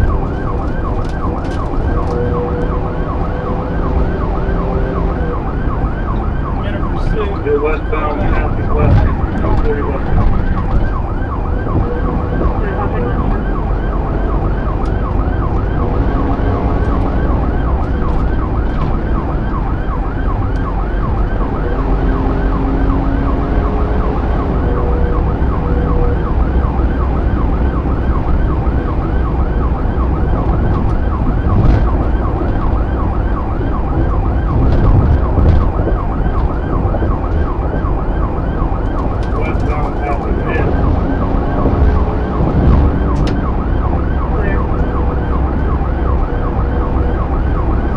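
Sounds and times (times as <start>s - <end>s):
car engine and road rumble: 0.0s - 47.9s
police siren yelping: 0.0s - 47.9s.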